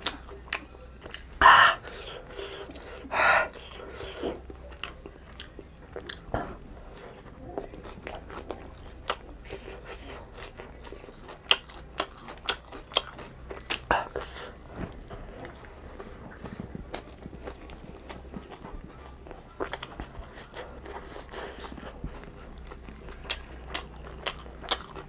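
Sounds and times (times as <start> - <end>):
person crunching food: 0.0 - 25.0.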